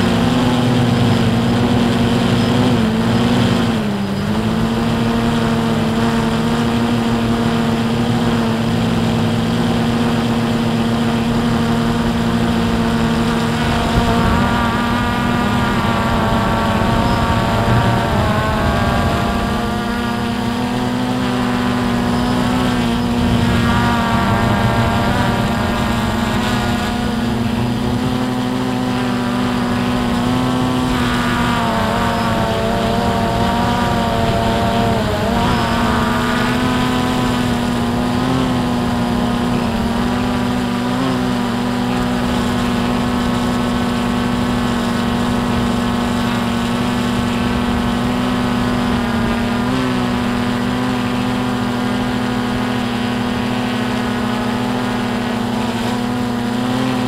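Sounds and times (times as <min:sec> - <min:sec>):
drone propeller whine: 0:00.0 - 0:57.0.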